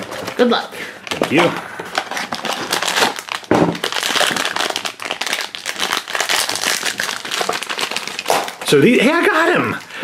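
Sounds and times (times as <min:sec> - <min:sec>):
foil bag crinkling and tearing: 0:00.0 - 0:10.0.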